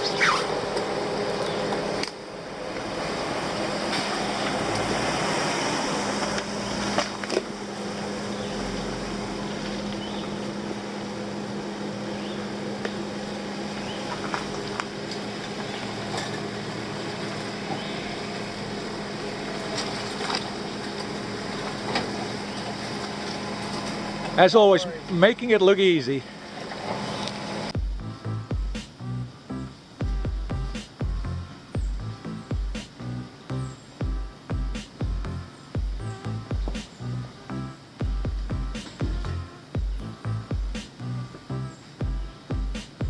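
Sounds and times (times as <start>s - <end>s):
off-road vehicle engine running: 0.0s - 26.7s, 27.4s - 43.0s.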